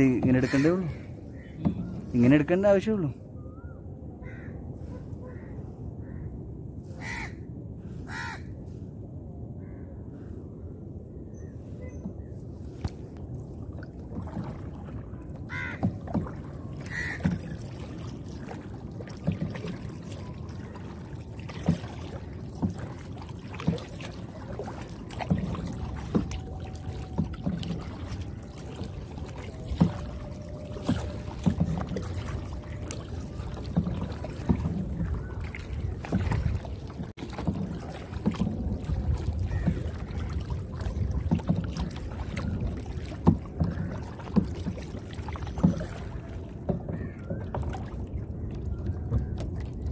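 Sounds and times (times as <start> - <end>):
paddle splashing in water: 0.0 - 2.6, 11.8 - 49.9.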